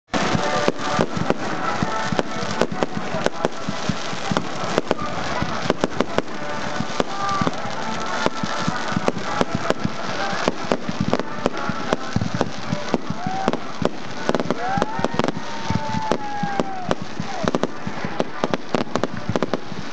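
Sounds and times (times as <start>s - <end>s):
fireworks bangs: 0.1s - 19.9s
hiss of burning fireworks: 0.1s - 19.9s.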